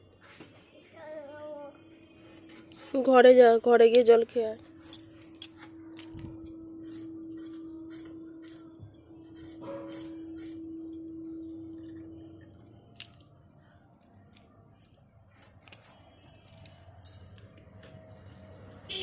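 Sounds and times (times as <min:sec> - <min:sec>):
steady low hum: 0:00.0 - 0:18.8.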